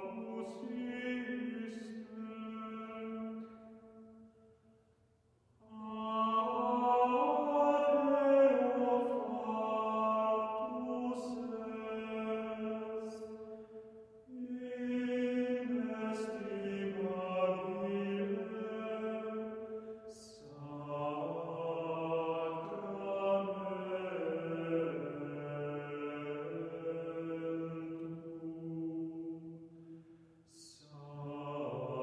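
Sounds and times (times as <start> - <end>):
chamber choir singing chords: 0.0 - 4.4, 5.6 - 32.0.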